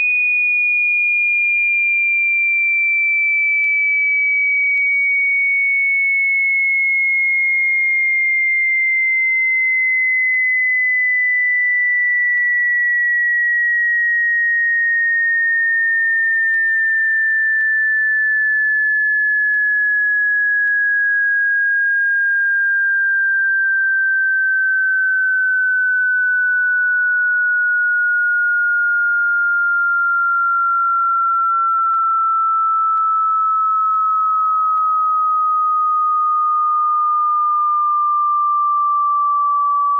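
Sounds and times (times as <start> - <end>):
sine tone sweeping lower: 0.0 - 39.9.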